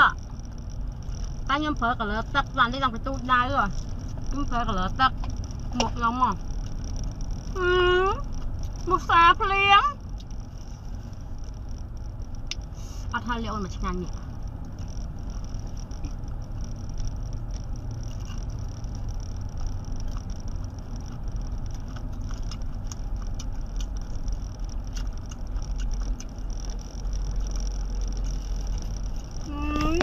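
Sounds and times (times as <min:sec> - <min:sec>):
car road rumble: 0:00.0 - 0:30.0.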